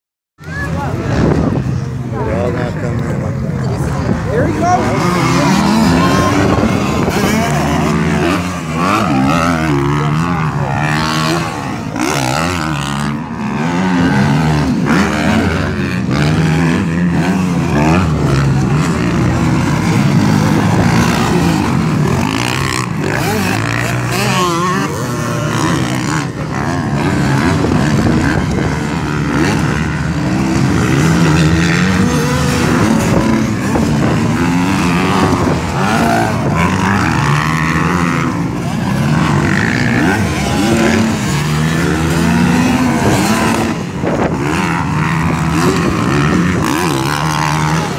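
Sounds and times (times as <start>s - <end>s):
dirt bike engines revving: 0.4s - 47.9s.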